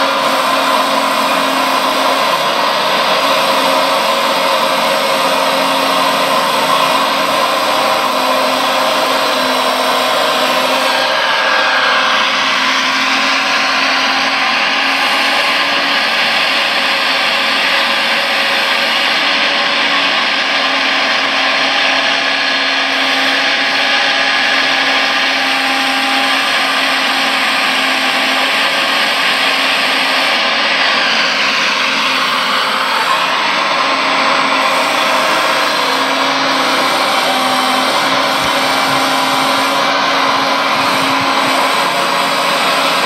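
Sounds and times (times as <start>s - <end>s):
model excavator hydraulics whining: 0.0s - 43.0s.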